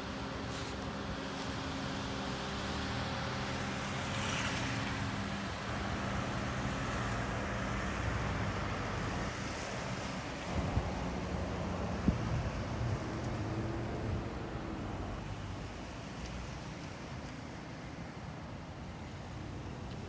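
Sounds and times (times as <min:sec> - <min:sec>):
cars driving off: 0:00.0 - 0:20.0
tyre and traffic noise: 0:00.0 - 0:20.0.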